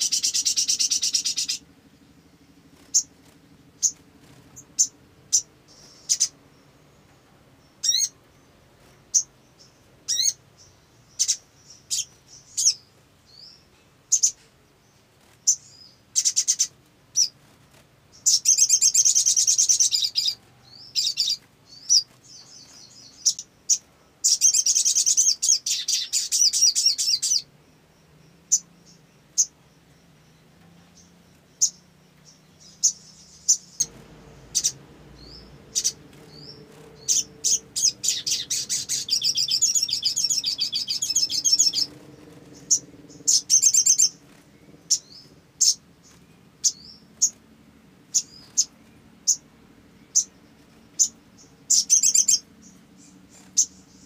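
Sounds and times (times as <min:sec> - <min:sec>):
sunbird trilling song: 0:00.0 - 0:54.0.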